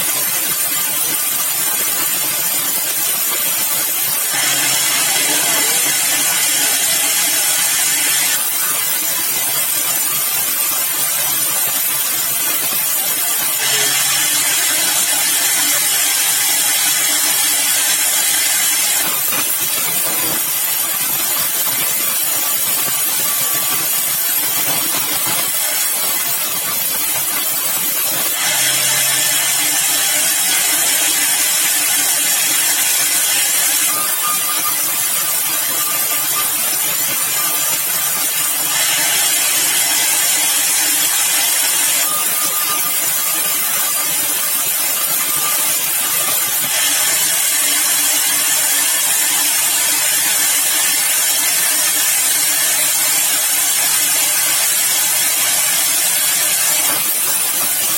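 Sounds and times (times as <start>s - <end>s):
sawmill saw cutting timber: 0.0s - 57.9s.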